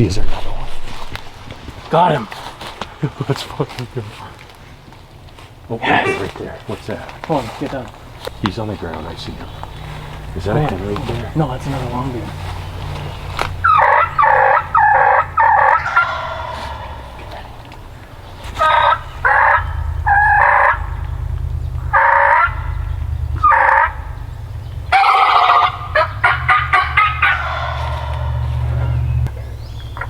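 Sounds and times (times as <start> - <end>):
wild turkeys gobbling: 0.4 - 30.0.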